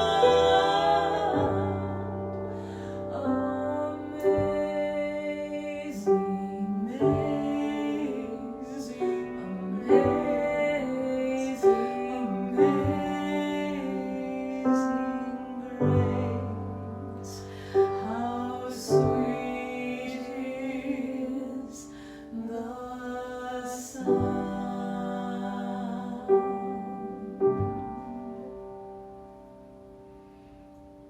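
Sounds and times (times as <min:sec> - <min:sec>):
women singing: 0:00.0 - 0:28.9
piano accompaniment: 0:00.0 - 0:31.0.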